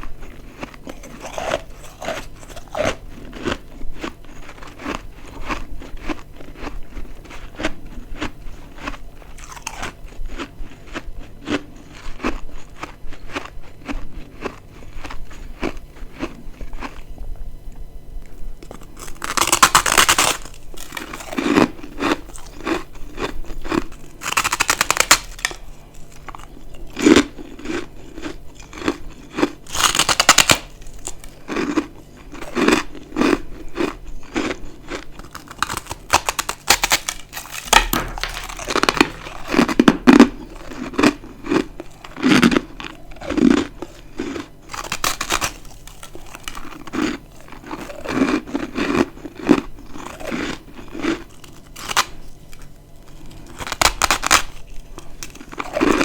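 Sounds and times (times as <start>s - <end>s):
frost chunks crunching: 0.0s - 17.0s, 18.6s - 56.0s
low chewing pulses: 0.0s - 56.0s.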